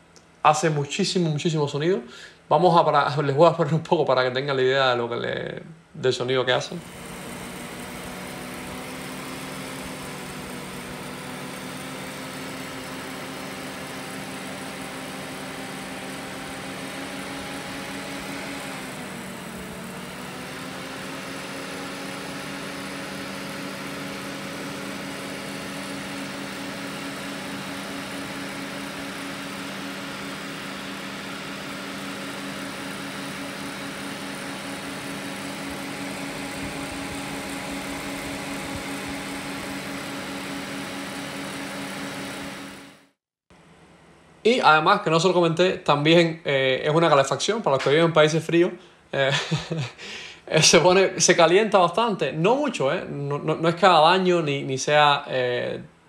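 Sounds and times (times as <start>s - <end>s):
cooling fans whirring: 0.0s - 42.9s, 43.6s - 56.0s.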